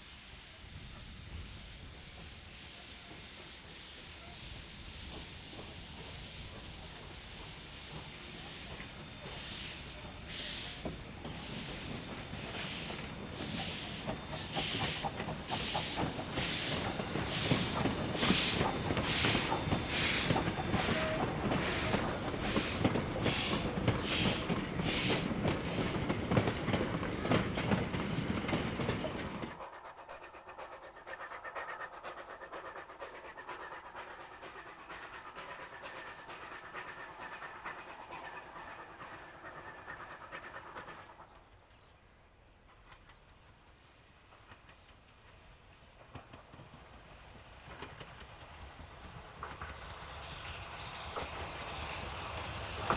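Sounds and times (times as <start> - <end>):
steam locomotive exhaust chuffing: 0.0 - 41.7, 42.6 - 52.9
passing train rumble and hiss: 0.0 - 52.9.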